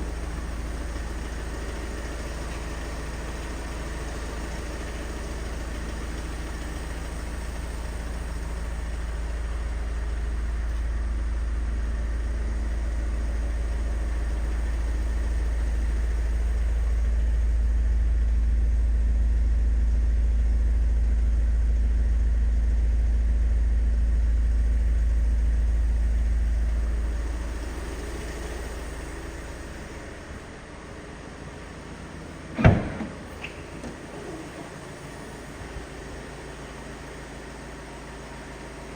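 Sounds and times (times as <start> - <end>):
van engine rumbling: 0.0 - 38.9.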